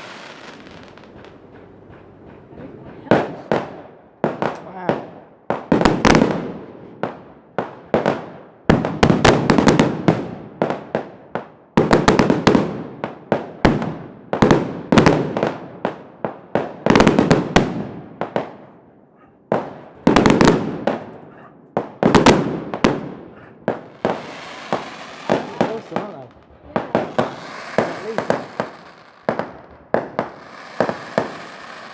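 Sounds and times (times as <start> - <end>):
fireworks bangs and crackles: 0.0 - 1.8, 2.4 - 31.9.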